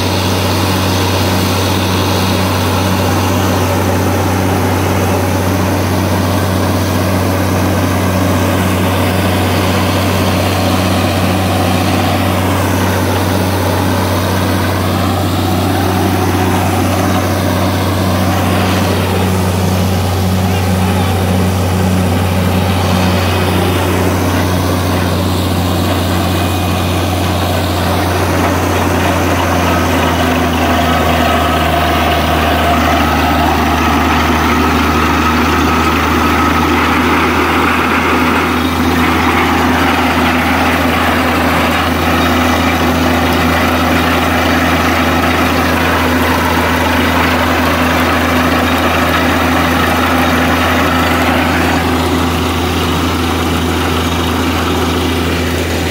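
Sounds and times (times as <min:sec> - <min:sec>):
drilling rig engine droning: 0:00.0 - 0:55.9.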